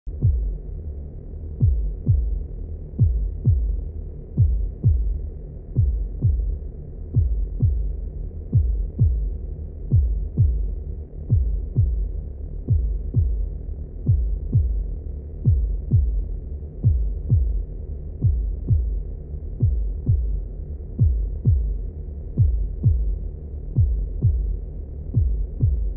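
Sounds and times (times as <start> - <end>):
low steady rumble: 0.0 - 25.9
heartbeat thumps: 0.1 - 0.6, 1.6 - 25.9.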